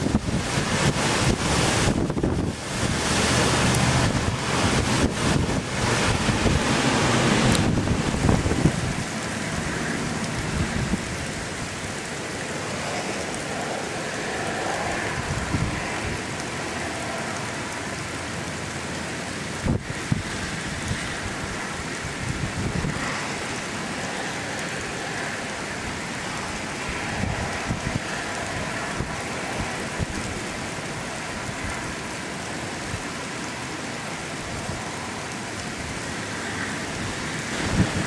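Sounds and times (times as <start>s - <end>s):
steady rain falling: 0.0s - 38.0s
wind gusts on microphone: 0.0s - 38.0s.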